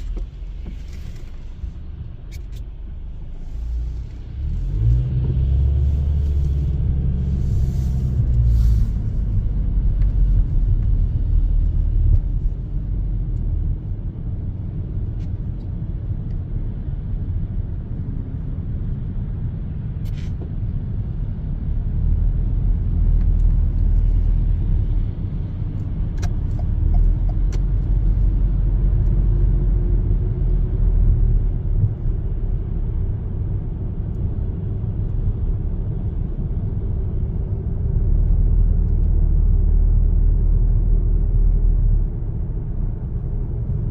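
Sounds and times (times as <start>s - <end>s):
car engine and tyres rumbling: 0.0s - 43.9s.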